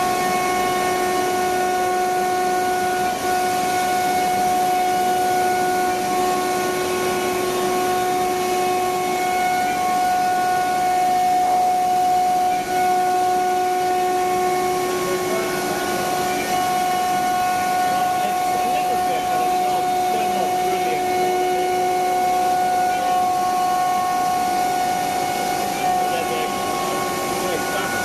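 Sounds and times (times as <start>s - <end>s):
router spindle high whine: 0.0s - 28.0s.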